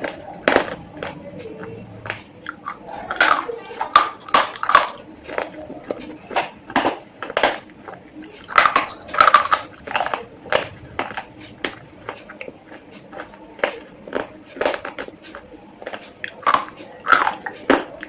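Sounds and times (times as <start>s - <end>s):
slate pencils being chewed: 0.0s - 18.0s.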